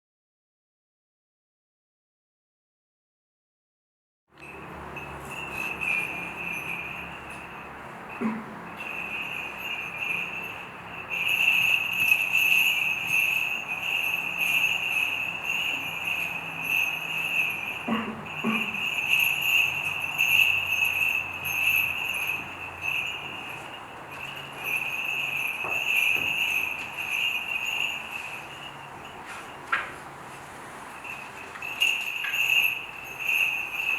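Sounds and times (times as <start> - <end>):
small bells jingling: 4.4 - 33.9.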